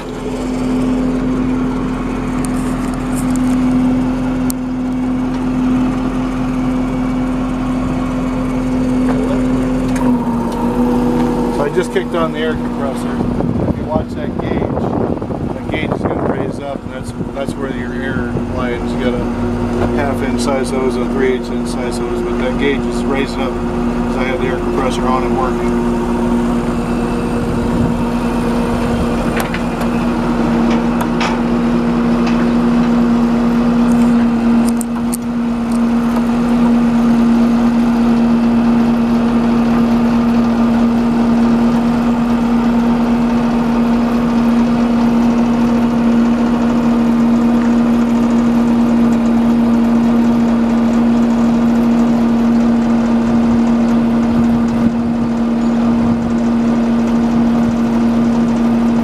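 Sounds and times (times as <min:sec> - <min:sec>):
diesel engine and air compressor: 0:00.0 - 0:59.0.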